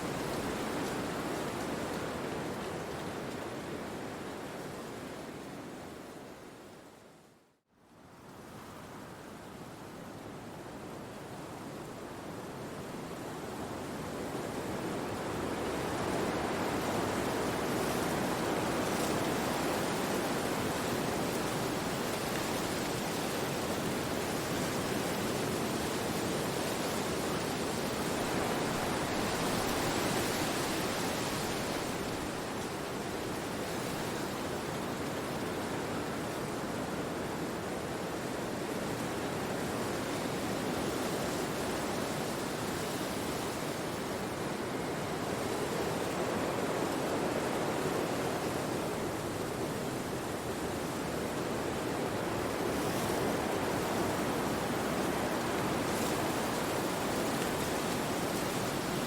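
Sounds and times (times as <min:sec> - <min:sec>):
wind rushing through trees: 0:00.0 - 0:59.0.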